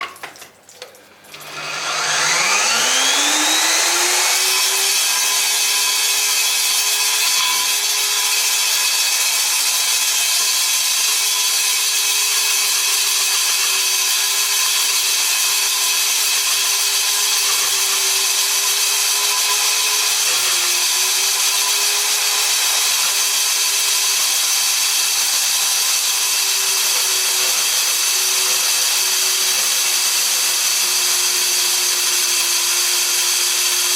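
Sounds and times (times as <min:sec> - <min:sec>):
core drill motor whine: 0:01.4 - 0:33.9
drill bit grinding concrete: 0:01.4 - 0:33.9.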